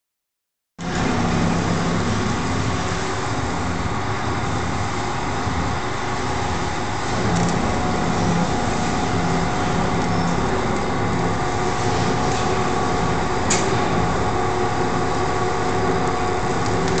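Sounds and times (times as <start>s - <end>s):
rubber mill motor drone: 0.8s - 17.0s.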